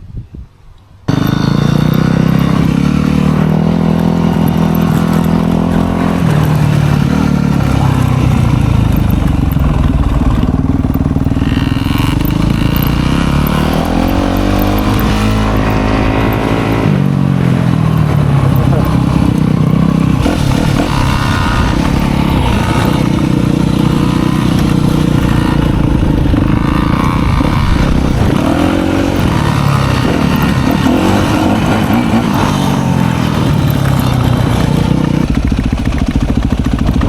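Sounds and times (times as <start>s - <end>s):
dirt bike engine revving: 1.1s - 37.0s.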